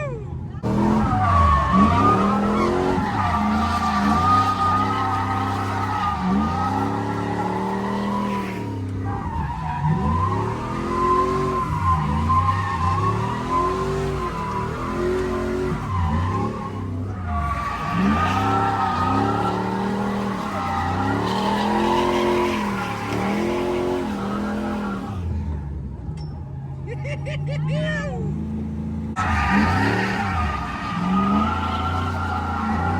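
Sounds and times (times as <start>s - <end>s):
car engine revving: 0.5s - 26.1s, 28.2s - 32.9s
tyres squealing: 0.6s - 25.2s, 29.2s - 32.9s.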